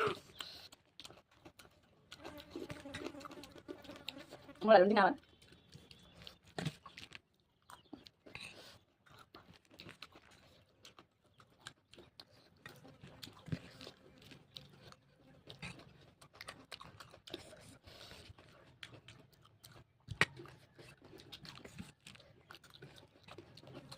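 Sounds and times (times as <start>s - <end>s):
person chewing food: 0.0s - 4.6s, 5.2s - 23.9s
food crunching: 0.0s - 23.9s.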